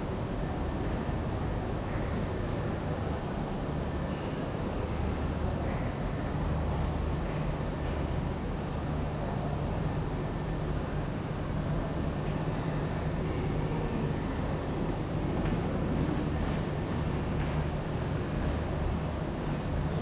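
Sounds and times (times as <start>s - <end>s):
constant low hum: 0.0s - 20.0s.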